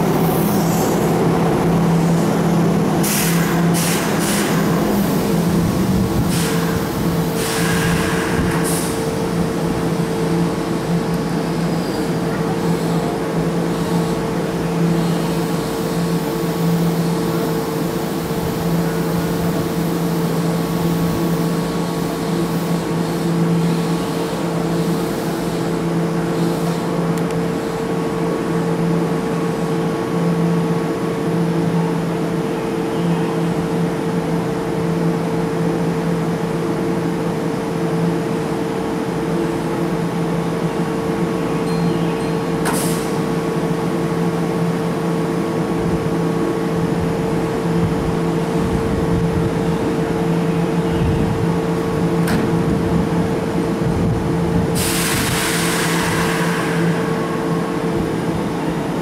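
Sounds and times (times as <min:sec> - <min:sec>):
electric train humming drone: 0:00.0 - 0:59.0.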